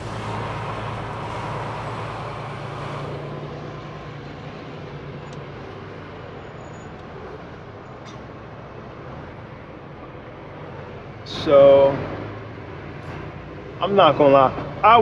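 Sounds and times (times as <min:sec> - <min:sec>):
diesel truck engine humming: 0:00.0 - 0:15.0
road rumble: 0:00.0 - 0:15.0.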